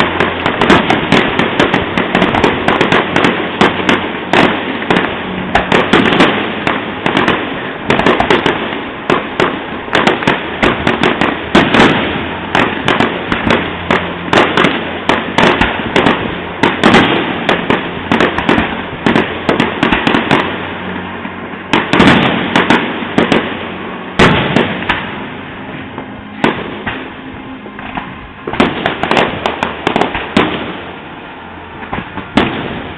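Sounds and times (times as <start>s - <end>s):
distant fireworks bangs and crackling: 0.0s - 32.9s.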